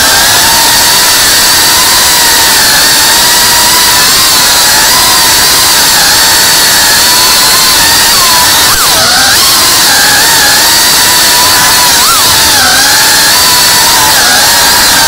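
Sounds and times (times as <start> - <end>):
drone motors high-pitched whine: 0.0 - 15.0.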